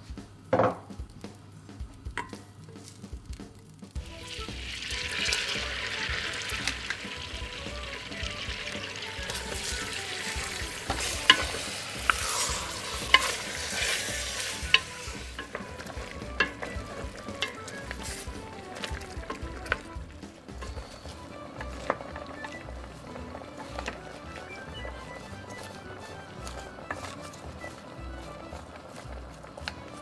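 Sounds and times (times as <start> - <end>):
wooden spoon knocking on pot: 0.5 - 1.2, 1.9 - 2.5, 4.0 - 30.0
beef sizzling in butter: 2.8 - 30.0.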